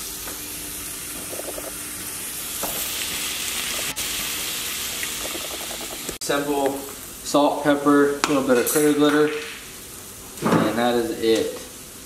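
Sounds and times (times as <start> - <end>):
onions sizzling in a skillet: 0.0 - 12.0.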